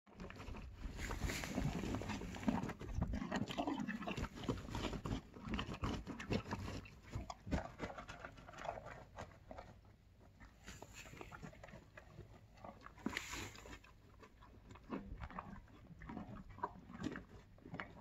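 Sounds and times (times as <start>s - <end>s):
horse chewing feed: 0.1s - 18.0s.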